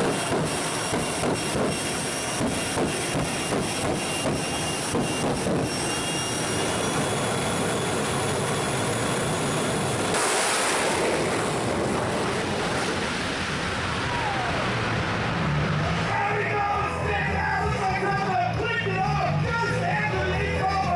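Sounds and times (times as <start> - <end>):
turbine engine rushing: 0.0 - 20.9.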